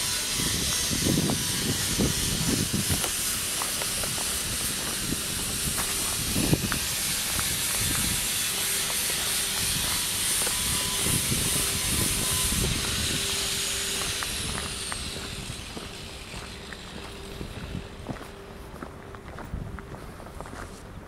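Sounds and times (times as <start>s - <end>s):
steady rushing hiss: 0.0s - 21.0s.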